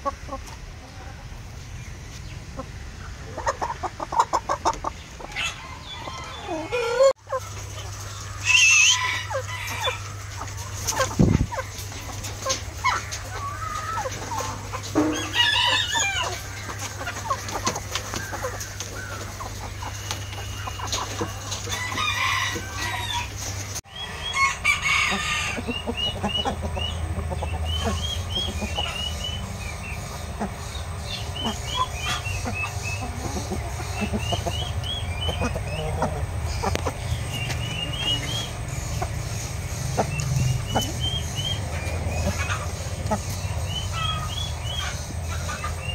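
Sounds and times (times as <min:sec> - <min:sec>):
chickens clucking: 0:00.0 - 0:45.9
roosters crowing: 0:02.8 - 0:45.9.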